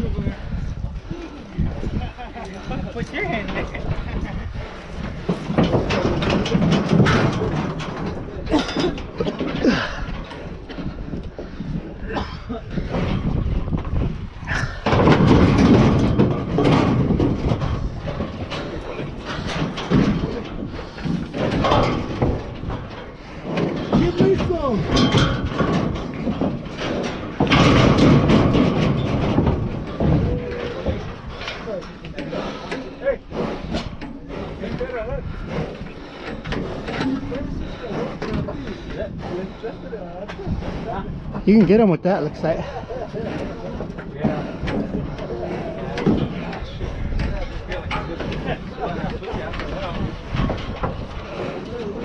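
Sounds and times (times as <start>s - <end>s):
metal trailer clanking and rattling: 0.0s - 52.0s.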